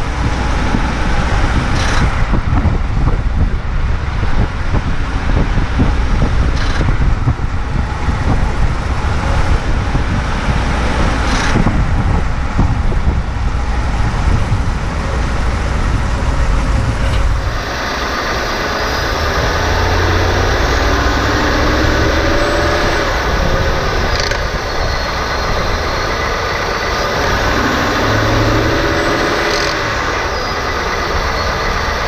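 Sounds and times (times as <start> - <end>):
road and drivetrain rumble: 0.0 - 32.0.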